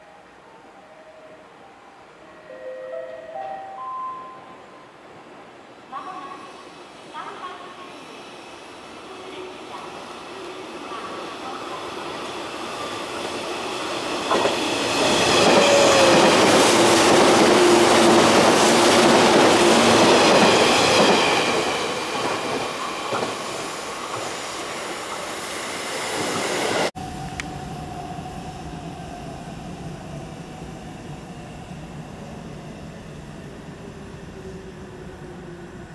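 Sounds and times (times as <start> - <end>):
electric train passing: 0.0 - 35.9.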